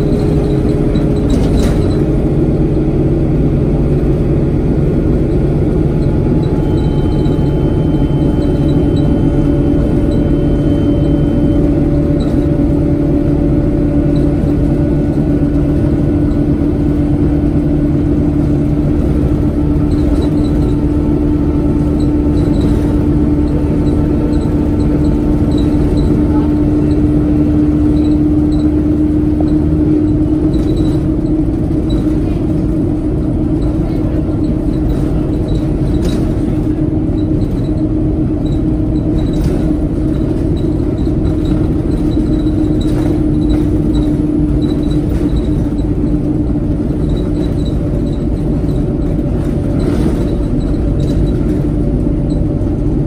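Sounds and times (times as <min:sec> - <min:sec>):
ticks and rattles in cabin: 0:00.0 - 0:02.3, 0:05.1 - 0:53.0
bus engine droning: 0:00.0 - 0:53.0.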